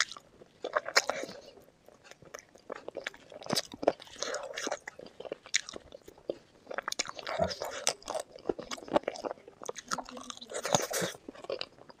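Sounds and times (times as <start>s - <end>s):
person chewing crunchy food: 0.0s - 12.0s.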